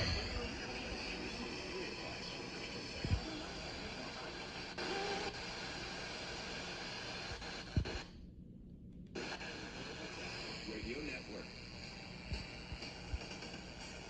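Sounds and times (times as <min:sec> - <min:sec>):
radio static hiss: 0:00.0 - 0:08.2, 0:09.2 - 0:14.0.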